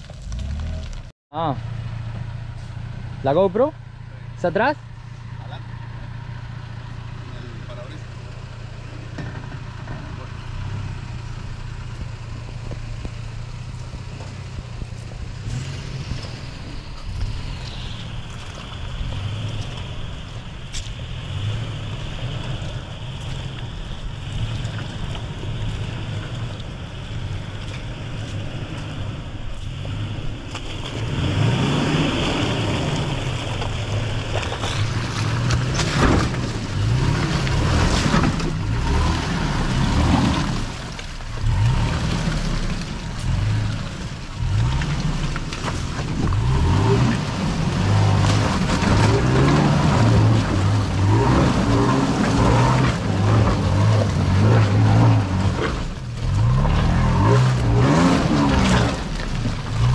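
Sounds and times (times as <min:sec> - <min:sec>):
tires churning through mud: 0:00.0 - 0:59.9
truck engines revving: 0:00.0 - 0:59.9.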